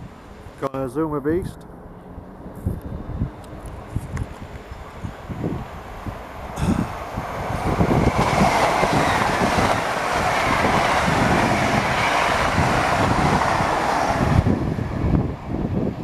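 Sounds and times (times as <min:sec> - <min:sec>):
train passing with rushing wheels: 0:00.0 - 0:16.0
wind buffeting microphone: 0:01.4 - 0:16.0.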